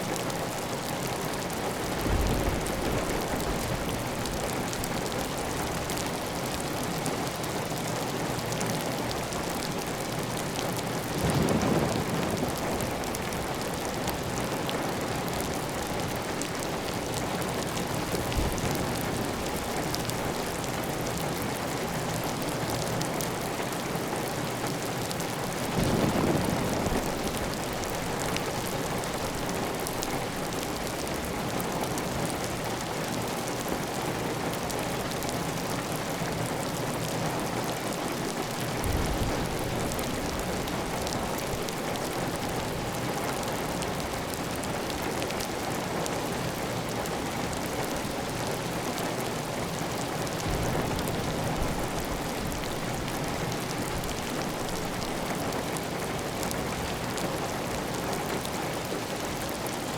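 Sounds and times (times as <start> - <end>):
heavy rain on a tile roof: 0.0 - 59.9.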